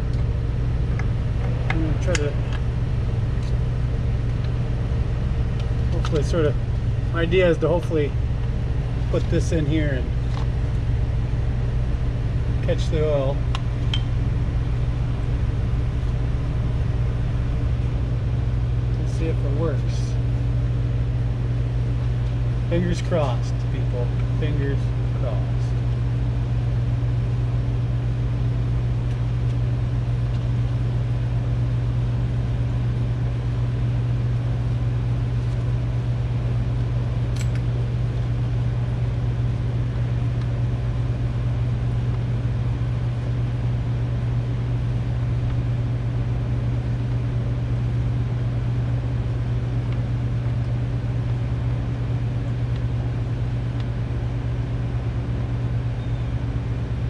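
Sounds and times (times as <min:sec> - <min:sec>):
machinery humming: 0:00.0 - 0:57.0.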